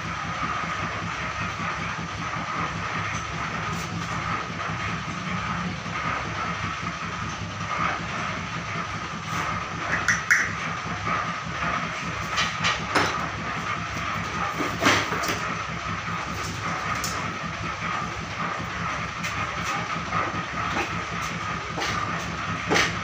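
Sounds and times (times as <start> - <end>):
mechanical hum with hiss: 0.0 - 23.0.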